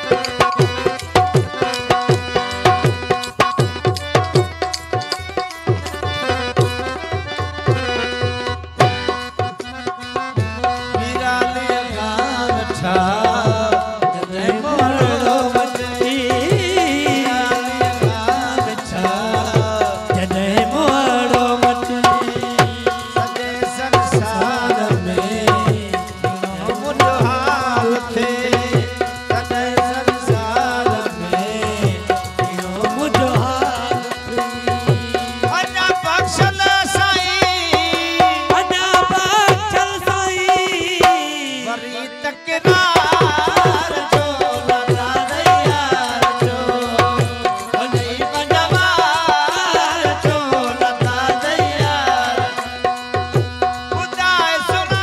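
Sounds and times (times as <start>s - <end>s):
hand drums playing rhythm: 0.0s - 41.8s, 42.6s - 55.0s
harmonium chords: 0.0s - 55.0s
person singing: 10.9s - 55.0s.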